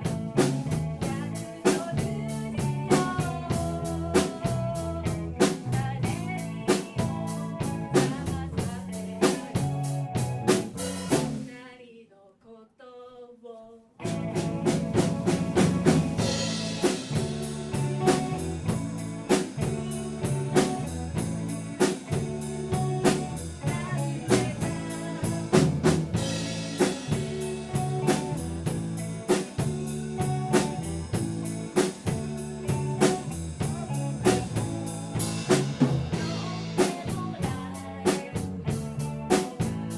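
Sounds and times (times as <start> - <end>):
drum kit beating: 0.0 - 11.5, 14.0 - 39.9
live rock band playing: 0.0 - 11.5, 14.0 - 39.9.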